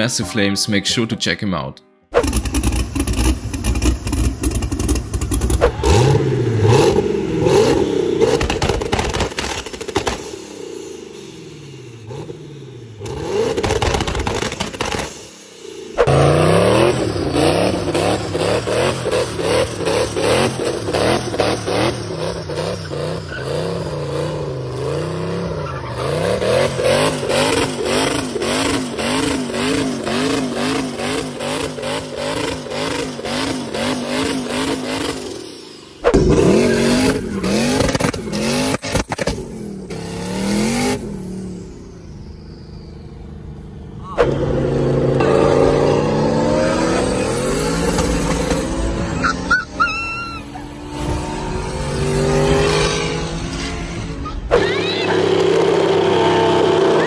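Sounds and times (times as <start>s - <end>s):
car engine revving hard: 2.2s - 10.3s, 11.1s - 15.2s, 16.0s - 41.7s, 44.2s - 57.0s
tyres spinning in burnout: 2.2s - 41.6s, 44.0s - 57.0s.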